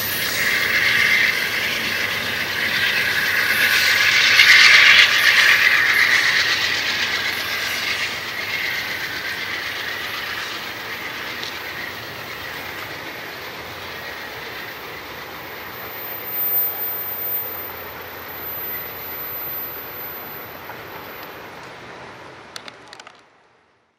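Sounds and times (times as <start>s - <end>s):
high wheel squeal: 0.0s - 21.4s
train wheels clicking over rail joints: 0.0s - 21.8s.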